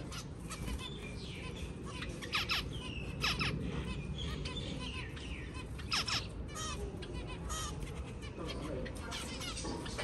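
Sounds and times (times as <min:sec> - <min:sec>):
finches calling: 0:00.0 - 0:10.0.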